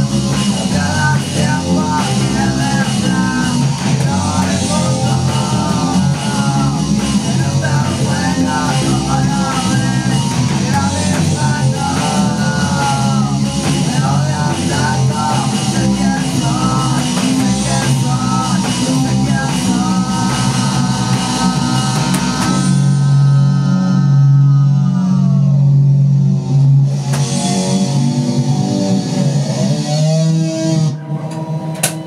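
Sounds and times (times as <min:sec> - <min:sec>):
person singing: 0:00.0 - 0:25.9
rock band playing: 0:00.0 - 0:32.0.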